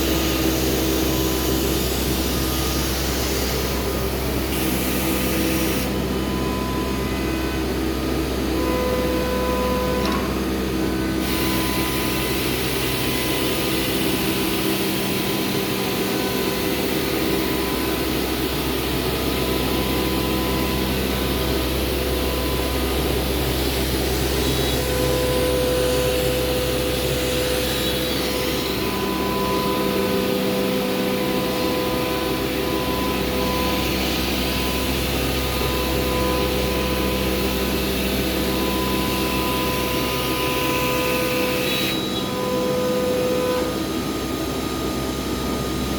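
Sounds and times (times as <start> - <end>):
cnc router milling: 0.0 - 45.9.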